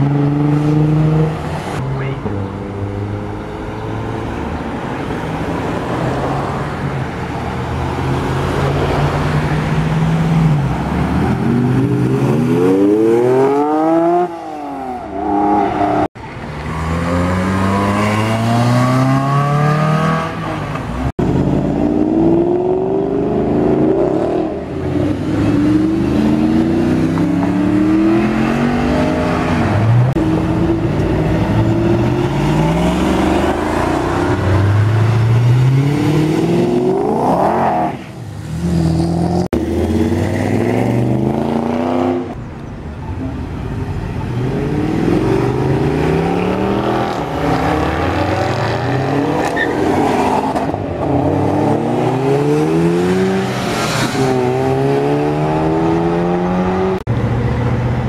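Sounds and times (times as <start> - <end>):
sports cars accelerating hard: 0.0 - 4.7, 7.7 - 42.4, 44.3 - 57.2.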